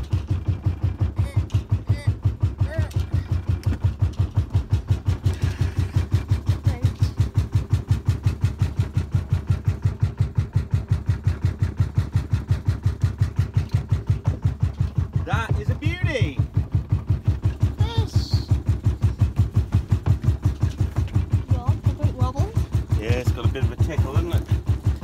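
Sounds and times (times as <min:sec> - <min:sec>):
boat engine pulsing: 0:00.0 - 0:25.0.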